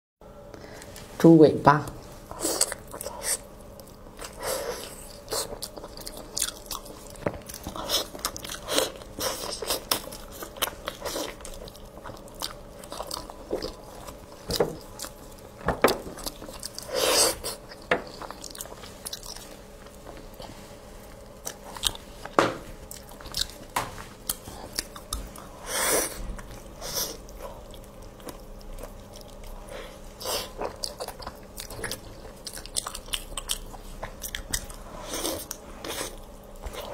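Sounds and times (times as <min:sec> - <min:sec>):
person chewing meat: 0:02.2 - 0:36.9.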